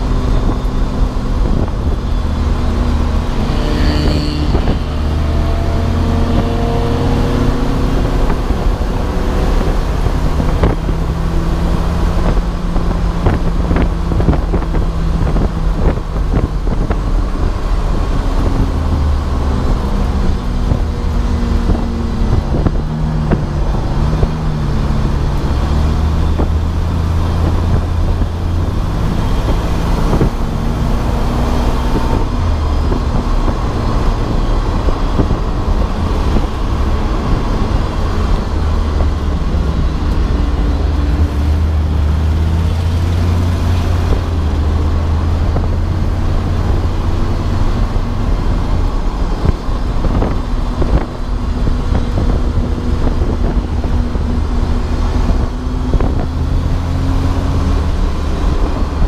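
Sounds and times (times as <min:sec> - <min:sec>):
race car engine running hard: 0:00.0 - 0:59.0
road and wind noise: 0:00.0 - 0:59.0.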